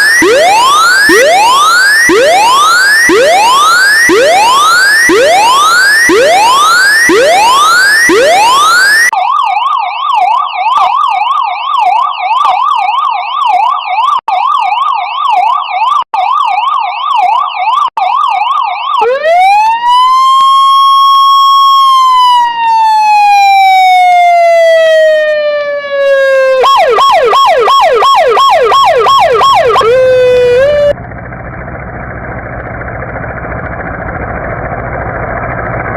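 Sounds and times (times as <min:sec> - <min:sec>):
electronic siren yelp: 0:00.0 - 0:31.0
siren wail: 0:00.0 - 0:35.9.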